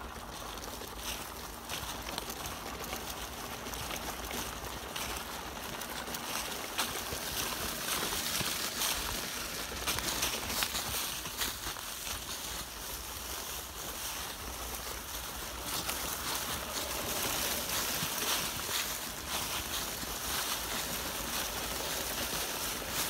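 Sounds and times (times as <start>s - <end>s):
dry leaves crackling under tyres: 0.0s - 23.0s.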